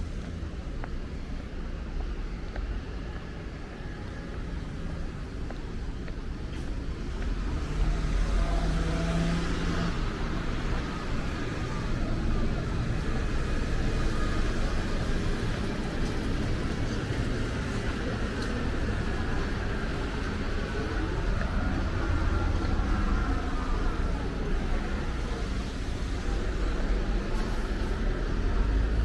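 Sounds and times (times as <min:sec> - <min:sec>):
road traffic rumble: 0:00.0 - 0:29.0
vehicle engine hum: 0:00.0 - 0:29.0.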